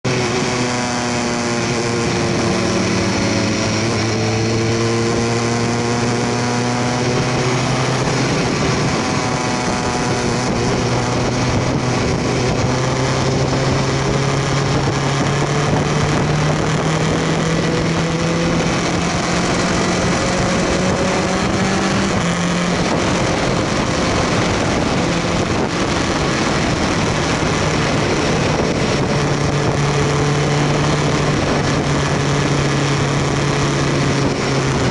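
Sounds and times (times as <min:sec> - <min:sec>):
motorcycle engine revving: 0:00.0 - 0:34.9
wind and road noise: 0:00.0 - 0:34.9.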